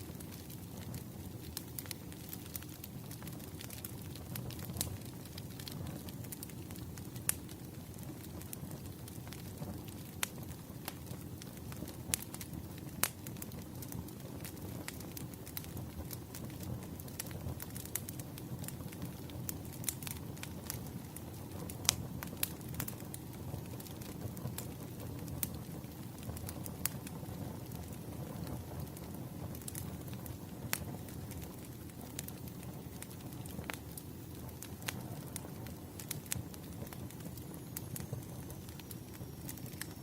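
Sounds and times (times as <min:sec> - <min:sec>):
fire popping and snapping: 0:00.0 - 0:40.0
wood fire crackling: 0:00.0 - 0:40.0.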